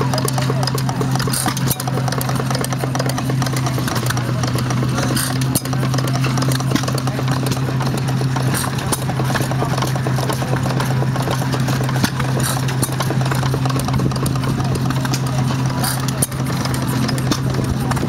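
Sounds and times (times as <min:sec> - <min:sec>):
stationary engine clacking: 0:00.0 - 0:18.0.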